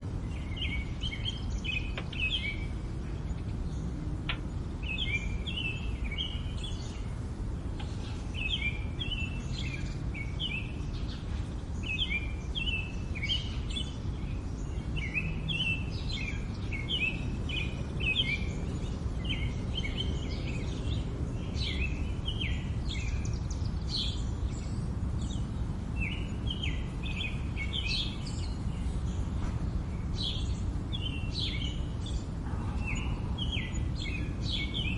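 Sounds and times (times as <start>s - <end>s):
low background rumble: 0.0s - 34.9s
small birds chirping: 0.0s - 34.9s.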